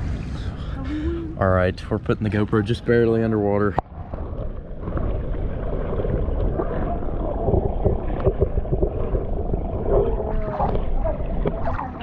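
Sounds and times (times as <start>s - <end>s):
low rumble of water over microphone: 0.0s - 12.0s
muffled water sloshing and gurgling: 0.0s - 12.0s.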